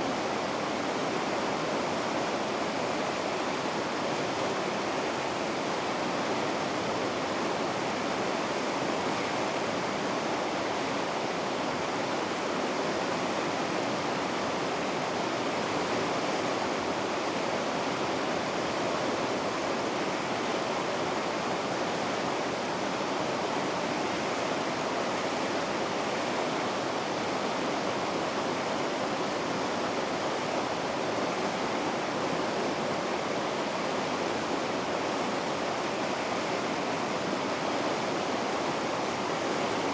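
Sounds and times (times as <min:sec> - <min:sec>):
water rushing through rapids: 0:00.0 - 0:39.9.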